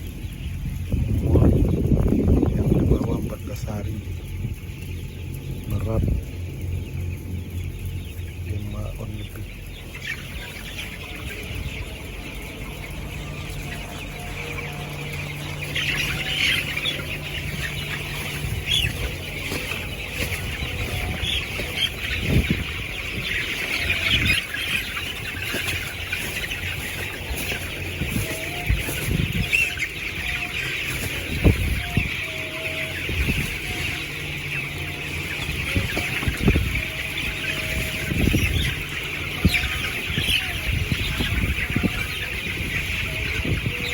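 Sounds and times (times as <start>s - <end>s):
chickens peeping and clucking: 0.0s - 43.9s.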